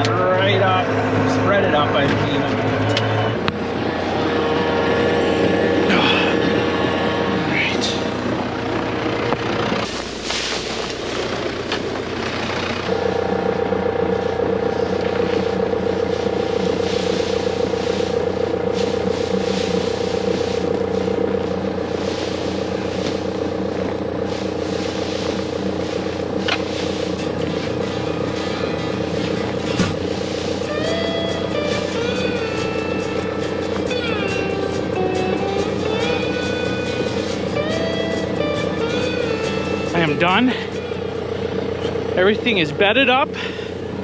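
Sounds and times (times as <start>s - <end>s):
steady whine: 0.0s - 44.0s
tractor engine running: 0.0s - 44.0s.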